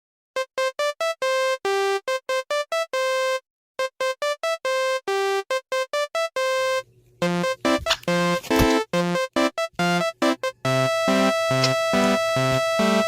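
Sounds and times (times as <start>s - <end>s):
bouncy melody of single notes: 0.4s - 13.0s.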